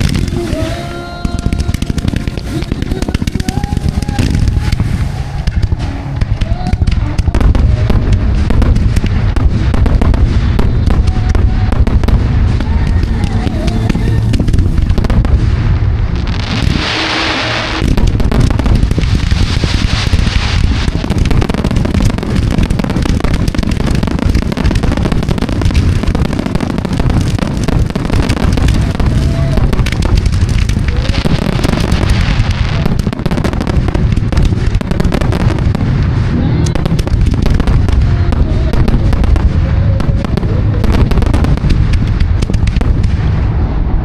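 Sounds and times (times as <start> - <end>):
fireworks bangs: 0.0 - 44.0
loud hissing crackle: 0.0 - 44.0.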